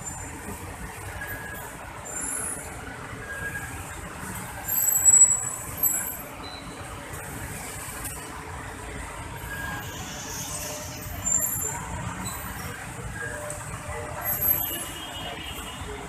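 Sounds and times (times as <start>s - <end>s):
brakes squealing: 0.0s - 16.0s
road traffic: 0.0s - 16.0s.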